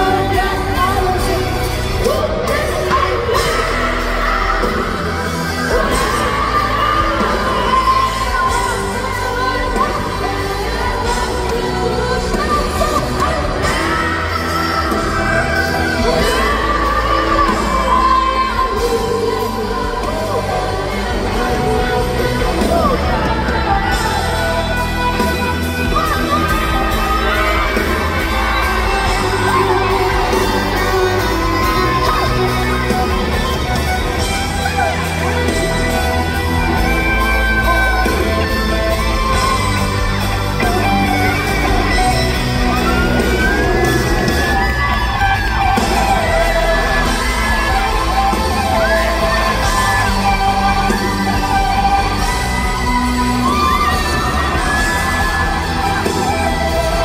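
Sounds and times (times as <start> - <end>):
crowd whooping and cheering: 0.0 - 57.0
live band playing: 0.0 - 57.0
woman singing into a microphone: 0.0 - 57.0.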